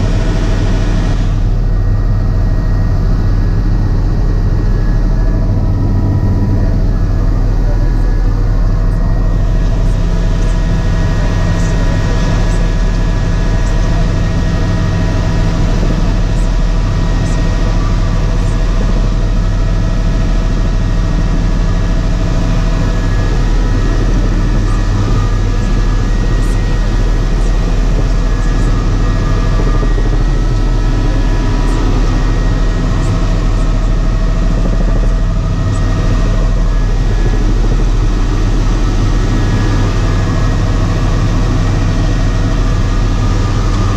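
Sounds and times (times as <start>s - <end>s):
helicopter rotor drone: 0.0s - 43.9s
high engine whine: 0.0s - 43.9s.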